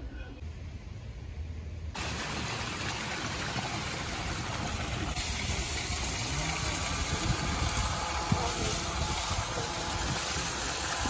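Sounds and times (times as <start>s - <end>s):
small waterfall splashing: 2.0s - 11.0s.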